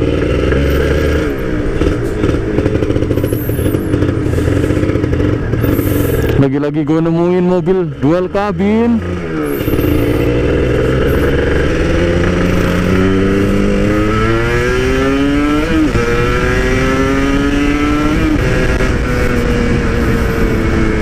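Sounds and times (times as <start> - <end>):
two-stroke motorcycle accelerating: 0.0 - 21.0.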